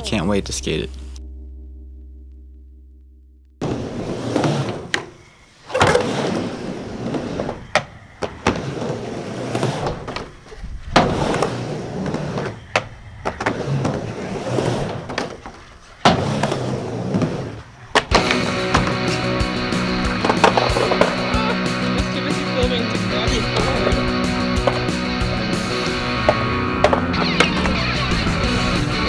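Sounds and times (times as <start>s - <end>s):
skateboard clacks and knocks: 3.6s - 29.0s
skateboard wheels rolling on ramp: 3.6s - 29.0s.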